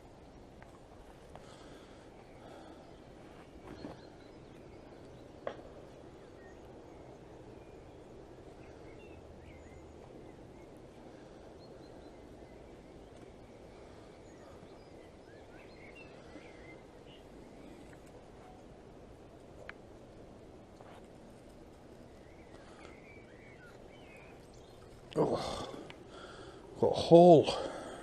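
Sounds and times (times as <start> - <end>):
faint bird chirps: 1.5 - 19.7, 20.8 - 28.0.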